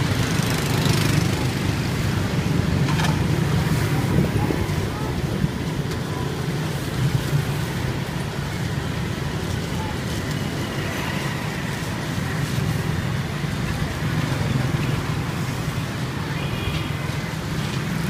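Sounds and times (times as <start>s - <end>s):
steady low street rumble: 0.0s - 18.0s
faint voices: 3.2s - 18.0s.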